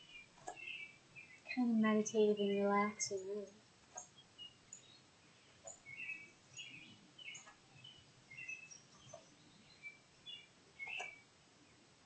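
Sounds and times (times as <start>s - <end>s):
faint bird chirps: 0.0s - 11.9s.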